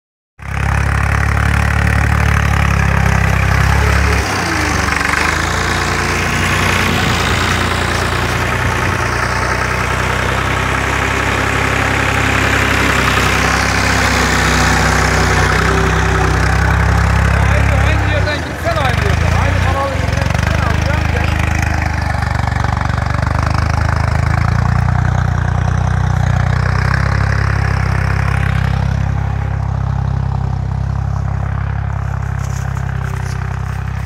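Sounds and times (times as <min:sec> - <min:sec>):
tractor diesel engine under load: 0:00.4 - 0:34.0.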